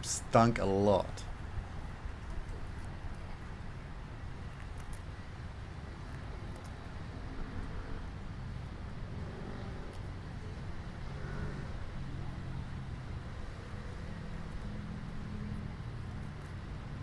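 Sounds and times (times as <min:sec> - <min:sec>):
distant road traffic rumble: 0:00.0 - 0:17.0
faint engine hum: 0:01.0 - 0:17.0.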